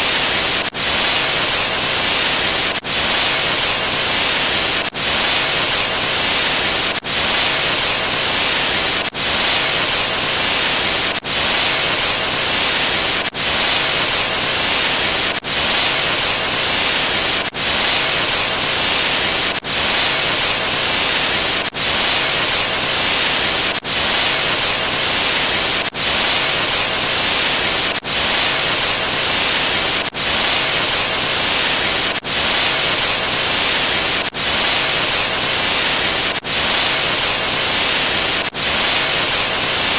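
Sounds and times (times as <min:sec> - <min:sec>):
white-noise static: 0:00.0 - 0:39.9.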